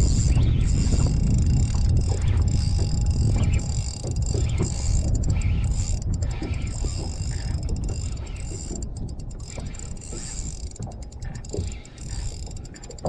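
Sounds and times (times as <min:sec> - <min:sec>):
spinning reel gears ticking: 0:00.0 - 0:13.0.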